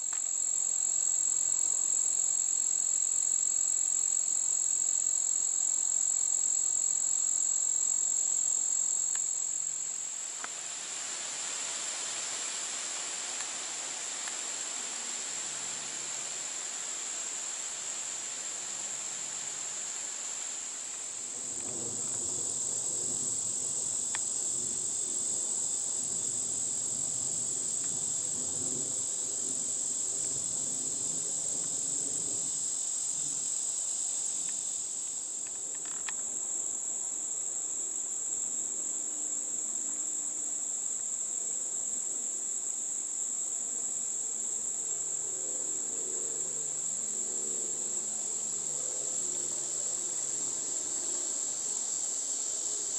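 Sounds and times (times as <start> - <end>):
crickets and insects singing: 0.0 - 52.9.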